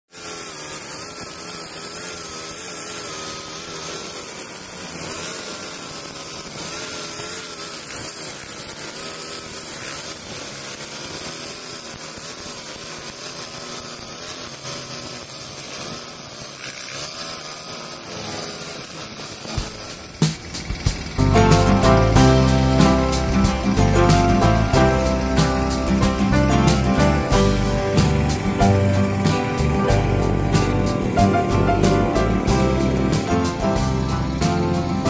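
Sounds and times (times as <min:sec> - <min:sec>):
nylon line cutting grass: 0:00.0 - 0:35.0
brush cutter engine running: 0:00.1 - 0:35.0.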